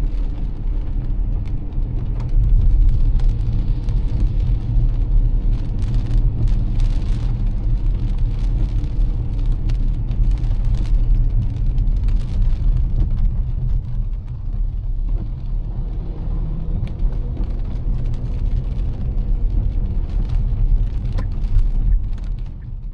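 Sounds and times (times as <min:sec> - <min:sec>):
car tyres rumbling on wet road: 0:00.0 - 0:22.9
raindrops tapping: 0:00.0 - 0:22.9.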